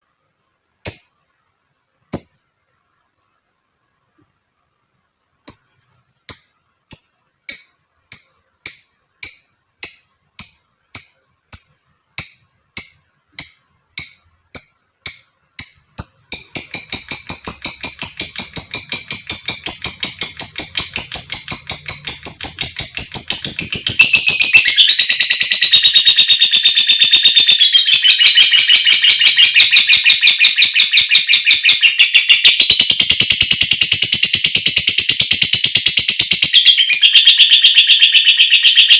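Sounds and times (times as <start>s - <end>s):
lovebird chirping and trilling: 0.8s - 1.3s, 2.1s - 2.6s, 5.4s - 38.9s.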